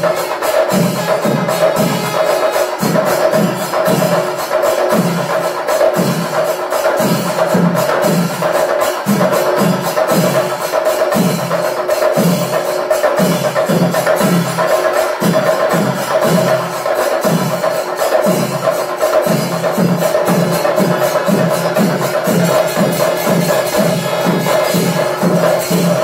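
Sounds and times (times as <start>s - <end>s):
cymbal hits: 0.0s - 26.0s
drum ensemble playing: 0.0s - 26.0s.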